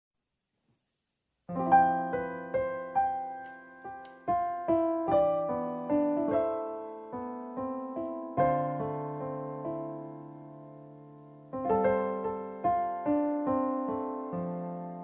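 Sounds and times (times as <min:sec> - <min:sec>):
gentle piano melody: 0:01.5 - 0:15.0.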